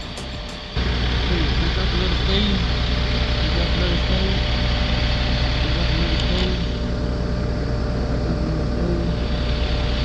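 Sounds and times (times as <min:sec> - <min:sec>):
heavy equipment engine rumbling: 0:00.0 - 0:10.0.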